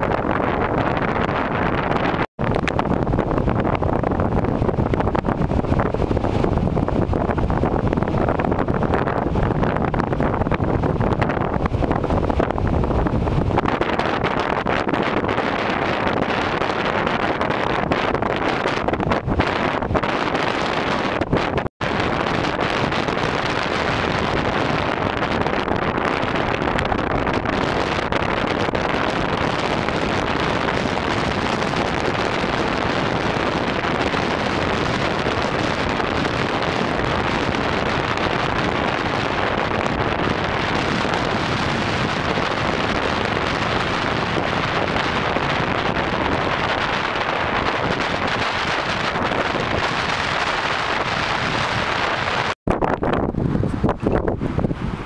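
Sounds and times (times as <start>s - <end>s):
wind buffeting microphone: 0.0s - 55.0s
surf breaking on beach: 0.8s - 53.8s.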